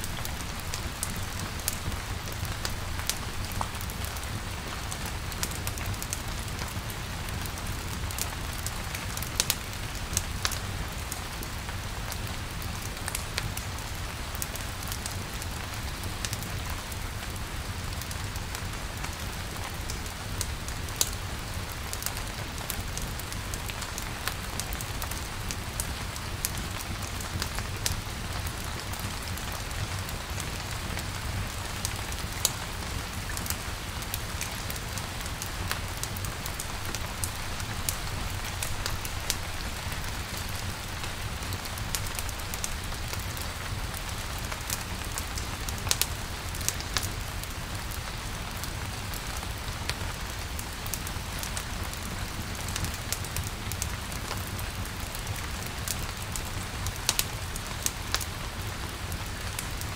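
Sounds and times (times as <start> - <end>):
crackling campfire: 0.0 - 59.9
sharp ticks of raindrops: 0.0 - 59.9
steady rain falling: 0.0 - 59.9.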